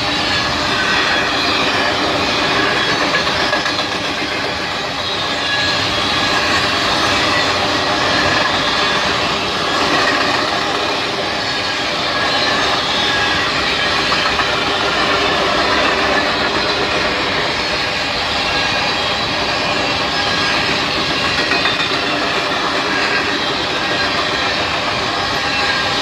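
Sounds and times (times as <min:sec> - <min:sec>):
train wheels rolling on rails: 0:00.0 - 0:26.0.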